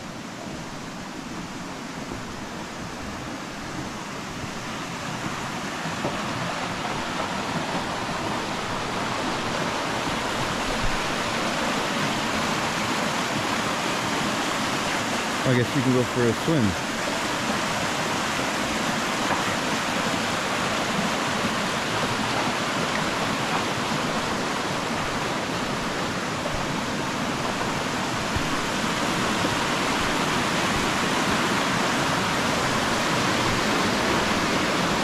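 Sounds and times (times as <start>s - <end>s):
rushing flowing water: 0.0s - 35.0s.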